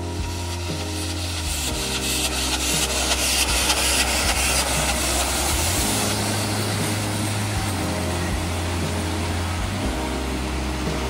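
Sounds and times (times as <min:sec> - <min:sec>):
steam hissing: 0:00.0 - 0:11.0
steam locomotive chuffing: 0:00.0 - 0:11.0
train rumbling: 0:00.0 - 0:11.0.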